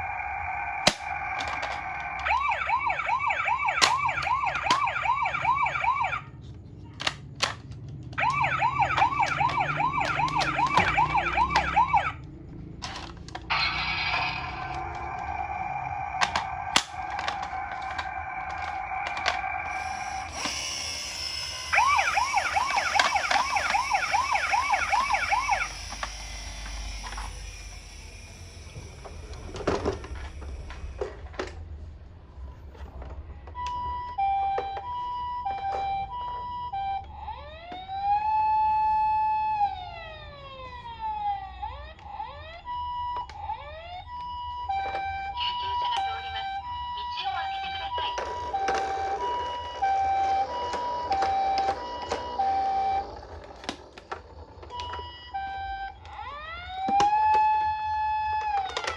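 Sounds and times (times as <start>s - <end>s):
toy ambulance siren: 0.0s - 31.6s, 32.8s - 58.9s.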